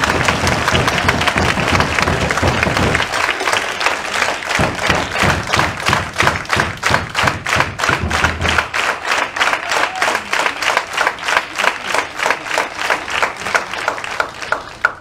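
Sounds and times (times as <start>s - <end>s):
crowd clapping in unison: 0.0s - 15.0s.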